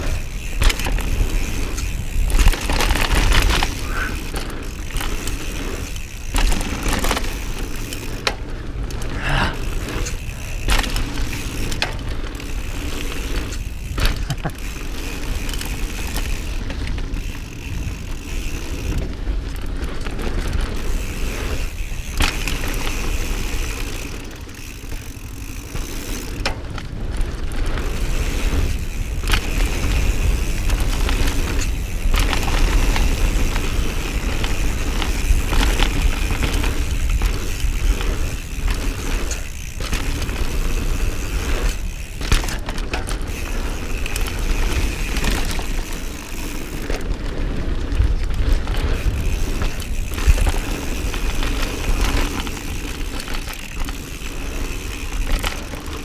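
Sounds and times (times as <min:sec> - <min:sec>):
bike clattering over bumps: 0:00.0 - 0:56.0
bike tyre noise: 0:00.0 - 0:56.0.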